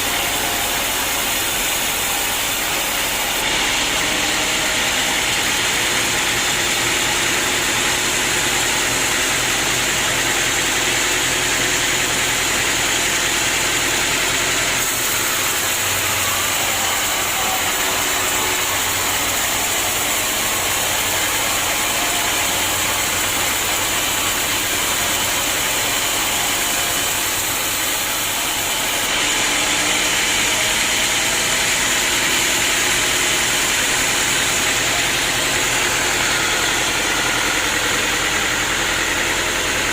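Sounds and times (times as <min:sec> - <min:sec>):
sawmill machinery hum and hiss: 0:00.0 - 0:39.9.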